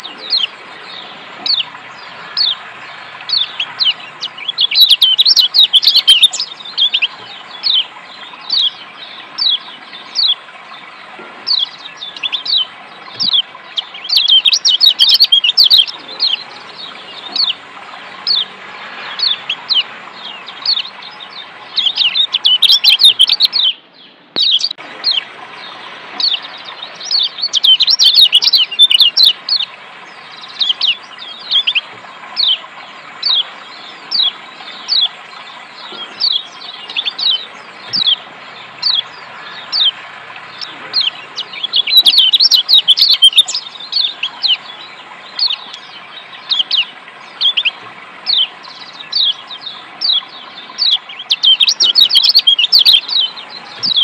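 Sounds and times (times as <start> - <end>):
bird chirping sharply: 0.0 - 10.4, 11.4 - 17.6, 18.2 - 29.7, 35.8 - 54.0
water rushing: 0.0 - 54.0.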